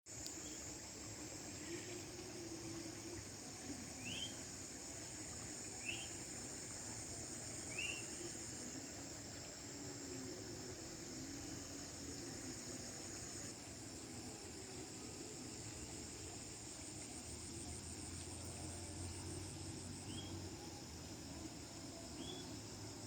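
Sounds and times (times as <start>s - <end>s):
crickets chorus: 0.1s - 23.0s.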